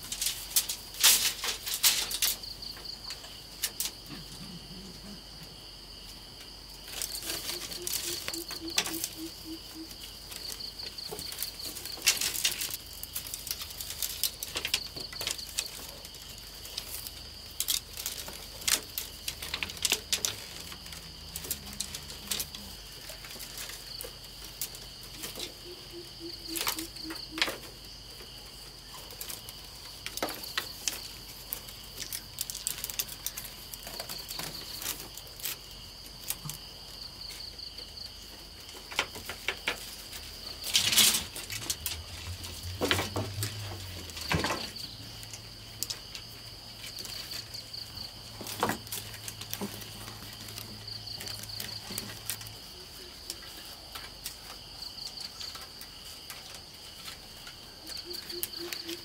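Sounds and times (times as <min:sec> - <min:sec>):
wooden sticks clicking and knocking: 0:00.0 - 0:04.0, 0:06.9 - 0:36.6, 0:38.5 - 0:59.0
crickets trilling: 0:00.0 - 0:59.0.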